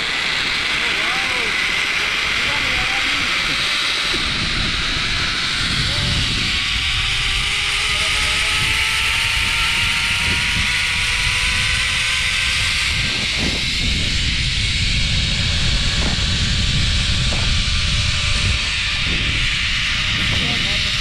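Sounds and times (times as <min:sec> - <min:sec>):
wind on microphone: 0:00.0 - 0:21.0
zipline pulley whine: 0:00.0 - 0:21.0.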